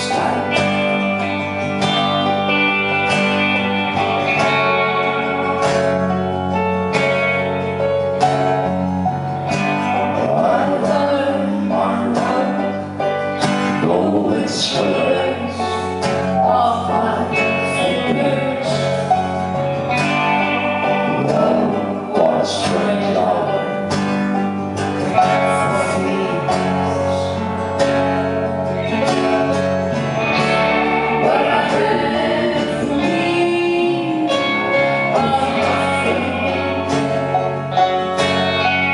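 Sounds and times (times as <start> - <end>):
person singing: 0.0 - 6.4, 9.9 - 24.1, 25.1 - 27.6, 30.3 - 38.6
band playing country-folk song: 0.0 - 38.9
guitars: 0.0 - 38.9.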